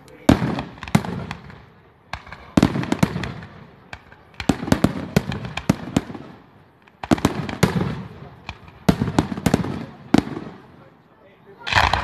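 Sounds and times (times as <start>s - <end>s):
firework crackles: 0.0s - 12.0s.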